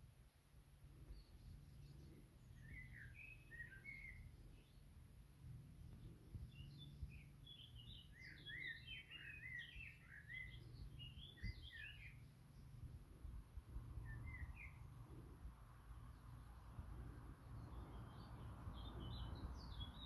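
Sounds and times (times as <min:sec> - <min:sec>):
faint songbird twittering: 0:00.8 - 0:20.0.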